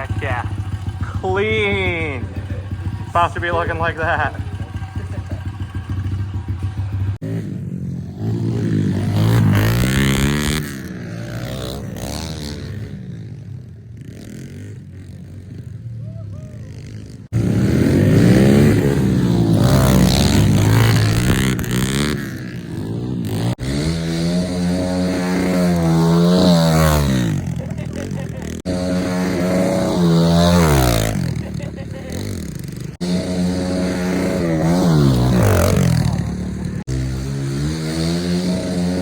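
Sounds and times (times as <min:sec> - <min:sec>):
pit bike engine revving: 0:00.0 - 0:39.0.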